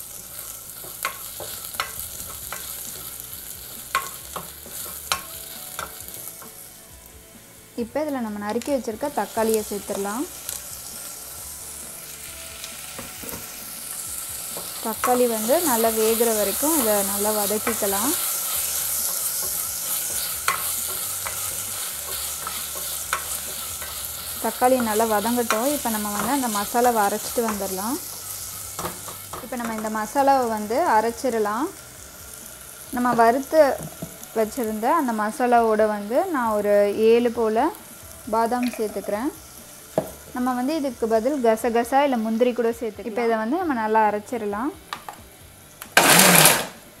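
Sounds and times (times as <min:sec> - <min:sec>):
food sizzling in hot oil: 0:00.0 - 0:47.0.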